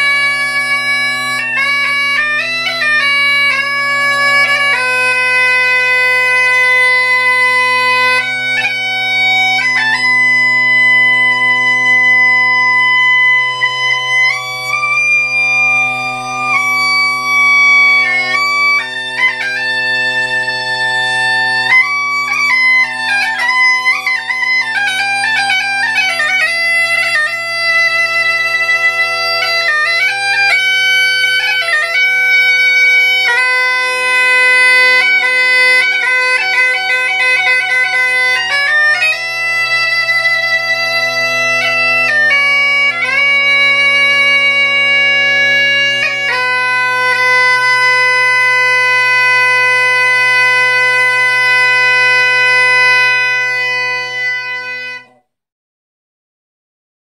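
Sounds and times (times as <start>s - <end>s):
bagpipe chanter melody: 0.0s - 55.3s
bagpipe low drone: 0.0s - 55.3s.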